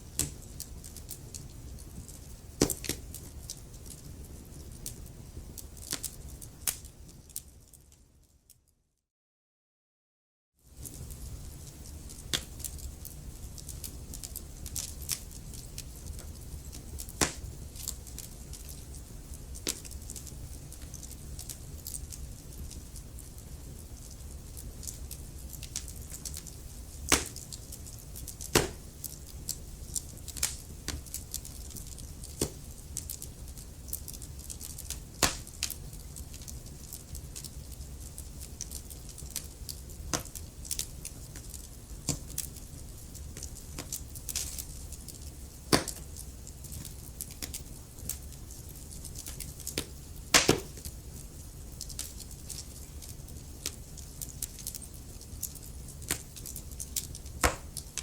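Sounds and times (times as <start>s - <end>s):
wood fire crackling: 0.0s - 8.6s, 10.6s - 58.0s.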